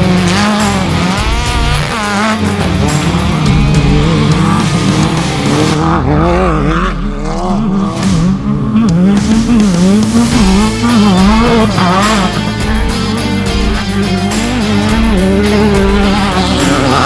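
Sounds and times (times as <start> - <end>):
engine revving up and down: 0.0 - 17.0.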